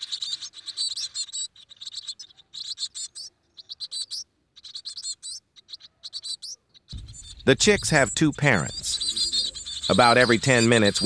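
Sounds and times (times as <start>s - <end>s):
nestling birds chirping: 0.0s - 11.0s.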